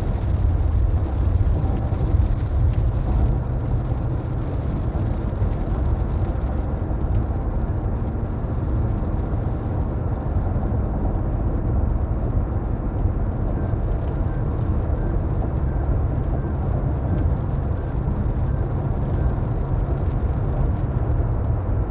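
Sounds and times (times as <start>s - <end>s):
car engine and road rumble: 0.0s - 21.9s.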